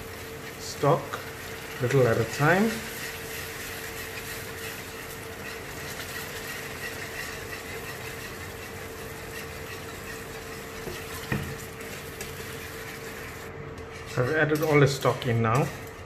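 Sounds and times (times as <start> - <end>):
sauce simmering: 0.0 - 13.6
mechanical hum: 0.0 - 16.0
whisk stirring in a pan: 0.0 - 16.0.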